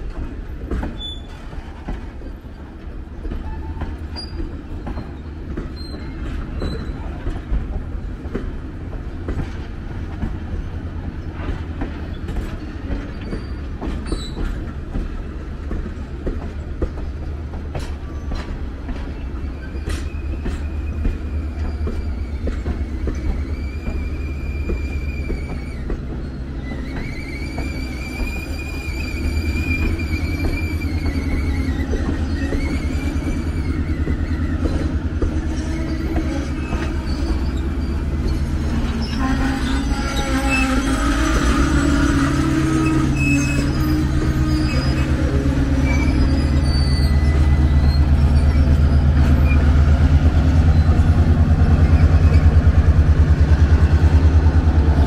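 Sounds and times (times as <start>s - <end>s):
diesel locomotive engine drone: 0.0s - 55.0s
rumble of coaches on rails: 0.0s - 55.0s
train wheel flanges squealing: 0.0s - 55.0s.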